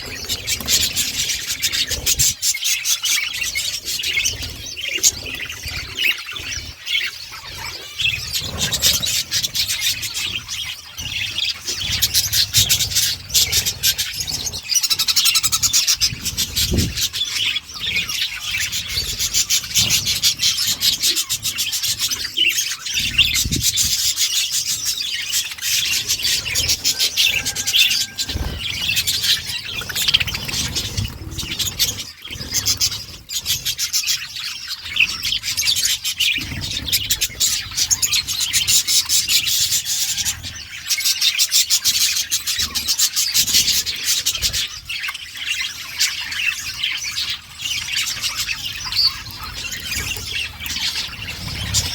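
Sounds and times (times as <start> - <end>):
budgerigars chattering and warbling: 0.0 - 51.9.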